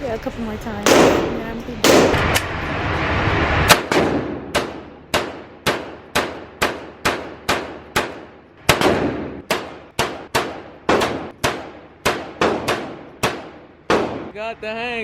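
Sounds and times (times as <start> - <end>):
pistol shots echoing: 0.9 - 2.3, 3.7 - 14.4.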